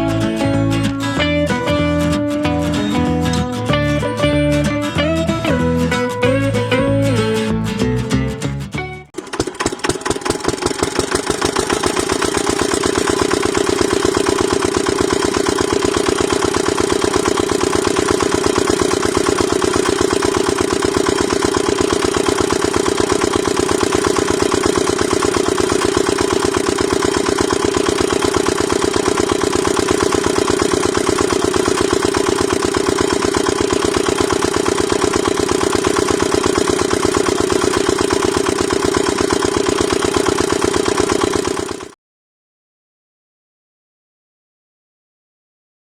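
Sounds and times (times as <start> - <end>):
small engine running at fast idle: 0.0 - 7.5, 9.2 - 42.0.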